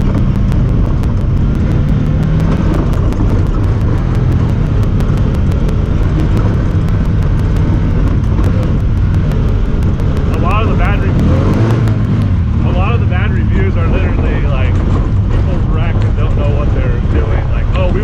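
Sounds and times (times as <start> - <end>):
fast regular ticking: 0.0 - 18.0
vehicle engine running: 0.0 - 18.0.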